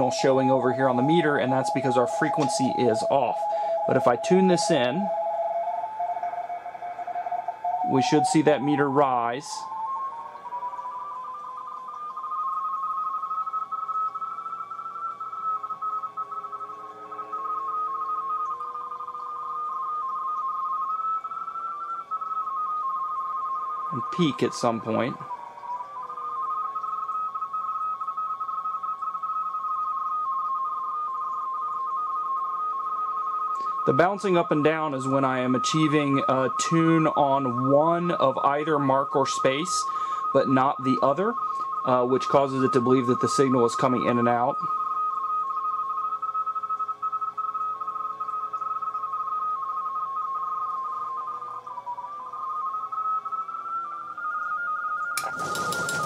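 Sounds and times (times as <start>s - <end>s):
two-tone teletype signal: 0.0s - 56.0s.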